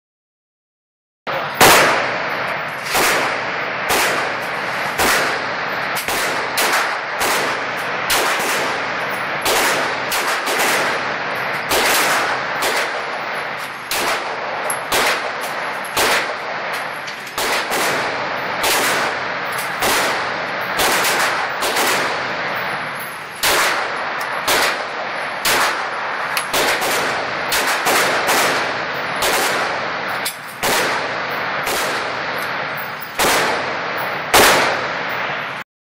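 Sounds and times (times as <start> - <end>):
pistol shots indoors: 1.6 - 22.8, 23.4 - 35.2.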